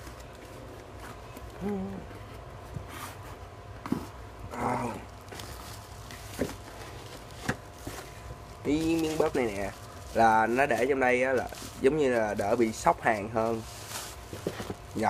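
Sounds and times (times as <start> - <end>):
cardboard and bubble wrap rustling: 0.0 - 15.0.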